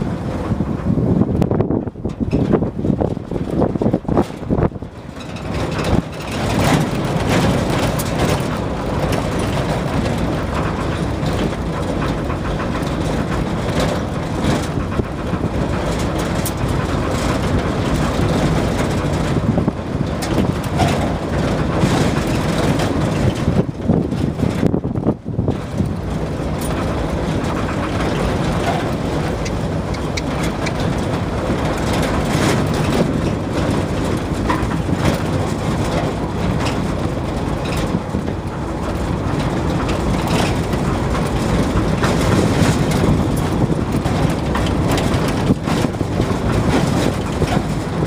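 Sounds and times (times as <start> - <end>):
truck engine and road rumble: 0.0 - 48.0.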